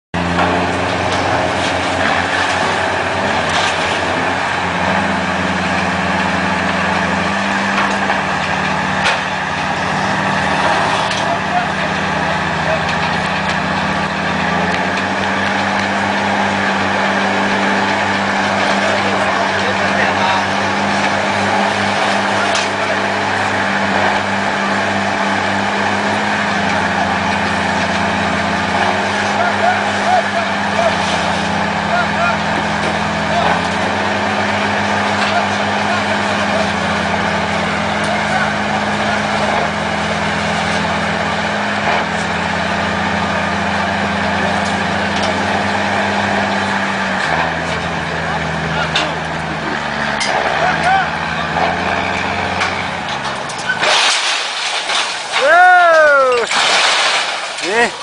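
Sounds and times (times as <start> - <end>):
heavy truck engine running: 0.1 - 58.0.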